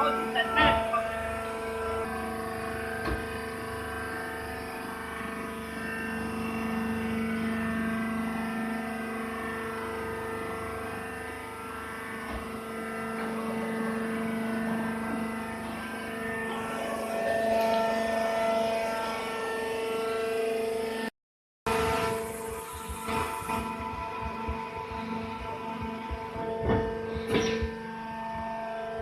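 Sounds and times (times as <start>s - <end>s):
baler machine drone: 0.0s - 21.1s, 21.7s - 29.0s.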